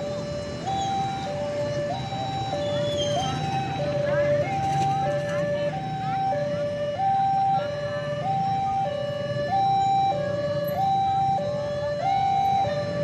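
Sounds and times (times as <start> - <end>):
two-tone warning siren: 0.0 - 13.0.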